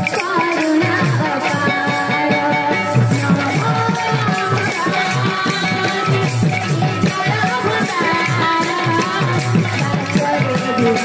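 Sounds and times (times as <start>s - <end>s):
jingling percussion: 0.0s - 11.0s
woman singing: 0.0s - 11.0s.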